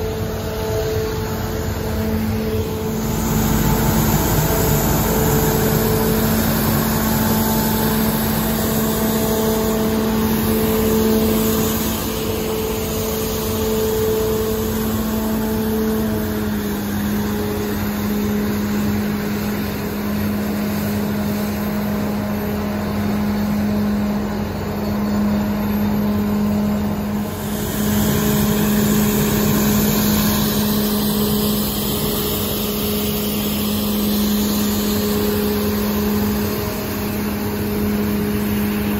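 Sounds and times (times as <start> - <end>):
street sweeper drone and whine: 0.0 - 38.9.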